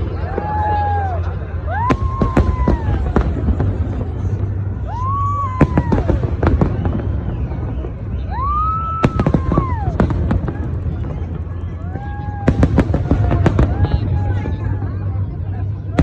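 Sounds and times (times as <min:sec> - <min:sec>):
fireworks popping and crackling: 0:00.0 - 0:16.0
whistling firework tone: 0:00.1 - 0:14.8.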